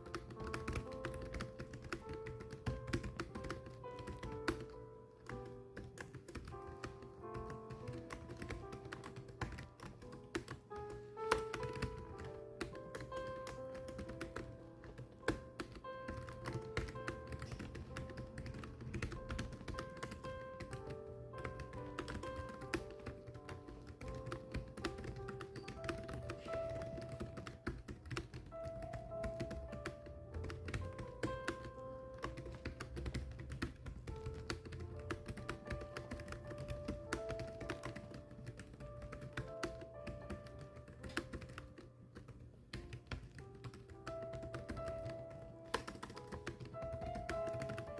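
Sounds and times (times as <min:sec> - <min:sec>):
background music with held notes: 0:00.0 - 0:42.0
fast keyboard typing: 0:00.0 - 0:47.9.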